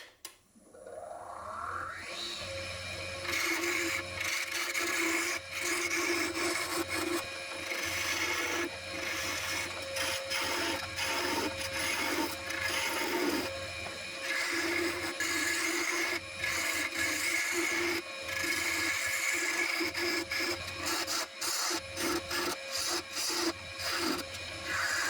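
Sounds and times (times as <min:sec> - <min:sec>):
lathe motor humming: 0:01.5 - 0:25.0
tool scraping spinning wood: 0:03.2 - 0:25.0.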